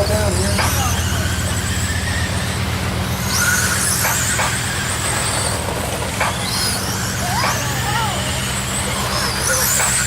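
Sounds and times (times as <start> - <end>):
toy truck motors whining: 0.0 - 10.0.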